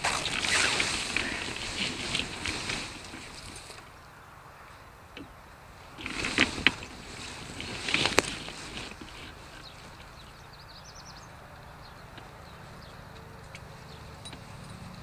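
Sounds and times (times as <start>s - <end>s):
grass rustling against camera: 0.0s - 15.0s.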